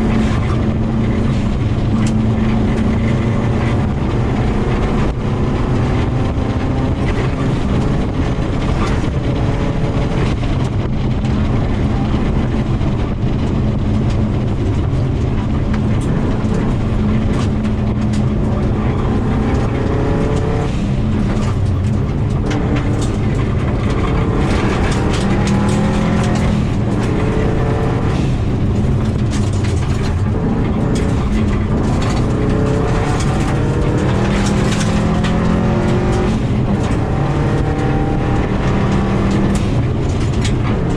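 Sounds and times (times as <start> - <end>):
car engine revving: 0.0 - 40.9
gravel road noise: 0.0 - 40.9.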